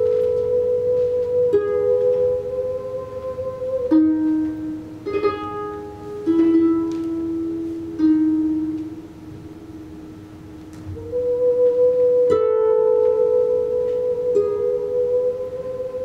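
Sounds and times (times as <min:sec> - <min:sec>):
harps playing plucked notes: 0:00.0 - 0:16.0.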